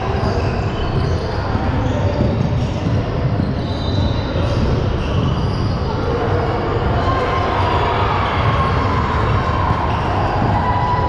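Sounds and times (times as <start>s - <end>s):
basketball court noise: 0.0s - 11.0s
crowd chatter: 0.0s - 11.0s.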